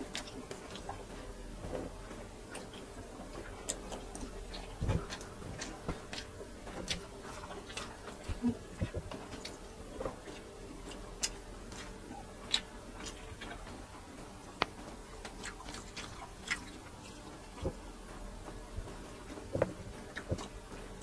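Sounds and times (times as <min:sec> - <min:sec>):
chewing smacks: 0:00.0 - 0:17.9, 0:19.5 - 0:21.0.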